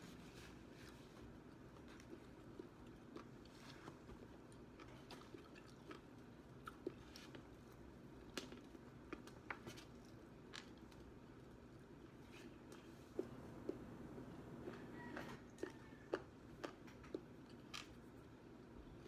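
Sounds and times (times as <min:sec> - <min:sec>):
chewing crispy fried chicken: 0:00.5 - 0:19.0.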